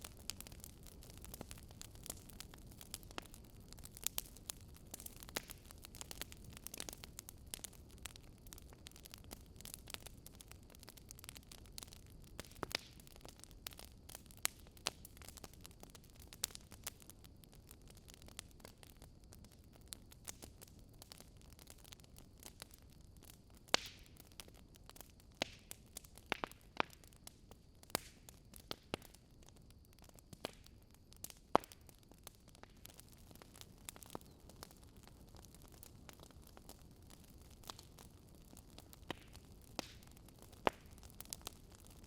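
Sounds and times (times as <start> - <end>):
burning logs crackling: 0.0 - 42.0.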